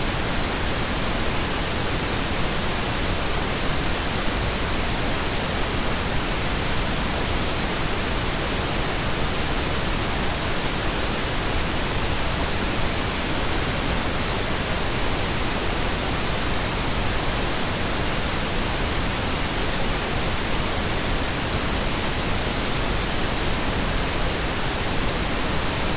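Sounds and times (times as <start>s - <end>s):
pink noise hiss: 0.0s - 25.9s.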